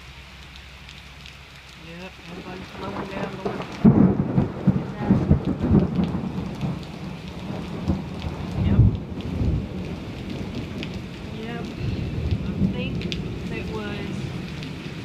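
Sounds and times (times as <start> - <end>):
heavy rain falling: 0.0 - 15.0
wind gusts buffeting microphone: 2.1 - 15.0.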